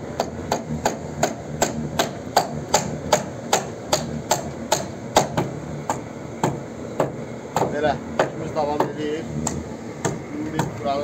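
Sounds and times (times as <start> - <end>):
hammer driving nails into wood: 0.2 - 10.7.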